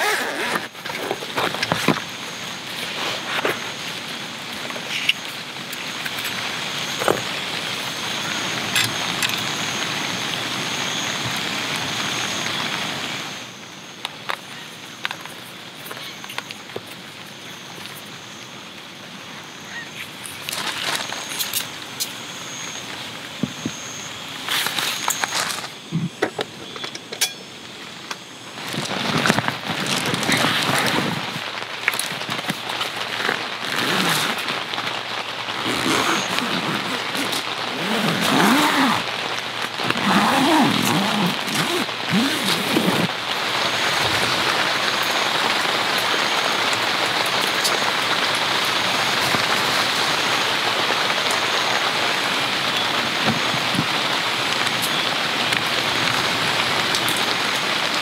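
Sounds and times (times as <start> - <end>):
heavy rain falling: 0.0 - 26.2, 27.6 - 58.0.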